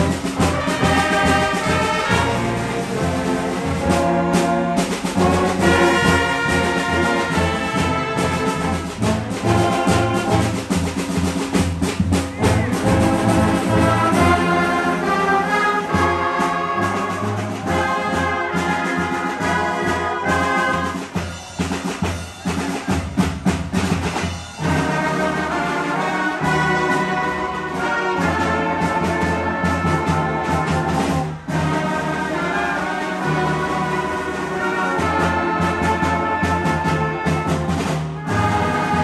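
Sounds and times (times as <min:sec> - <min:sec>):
wind band playing: 0:00.0 - 0:39.0.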